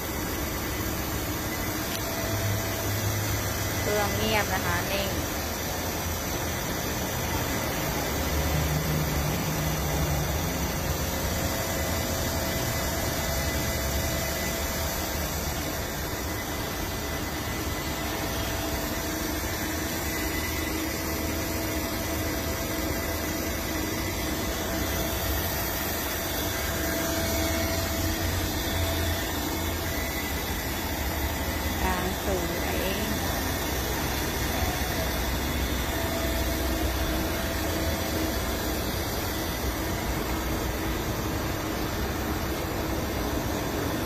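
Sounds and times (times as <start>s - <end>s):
lathe humming: 0.0s - 44.0s.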